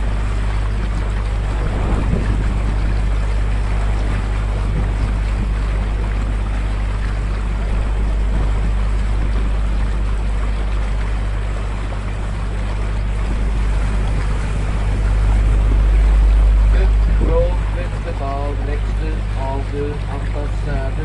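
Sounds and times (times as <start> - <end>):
boat motor humming: 0.0 - 21.0
churning boat wake: 0.0 - 21.0
wind on microphone: 0.0 - 21.0.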